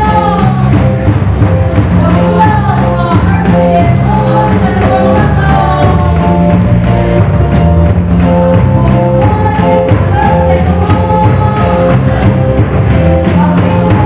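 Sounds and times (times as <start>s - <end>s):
worship music over loudspeakers: 0.0s - 14.0s.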